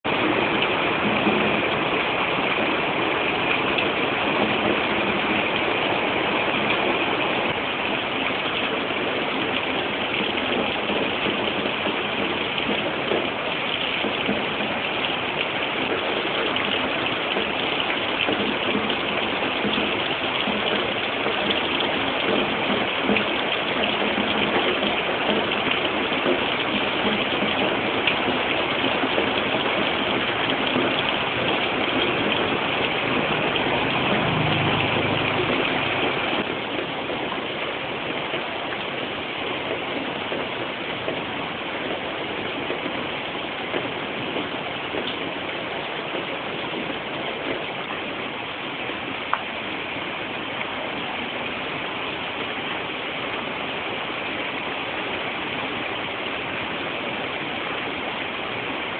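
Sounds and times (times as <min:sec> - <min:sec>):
heavy rain on leaves: 0:00.0 - 0:58.9.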